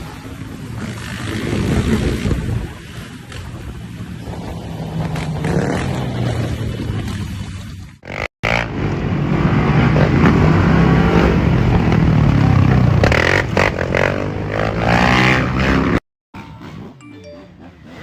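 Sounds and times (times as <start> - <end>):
motorcycle engines running loudly: 0.0 - 17.0.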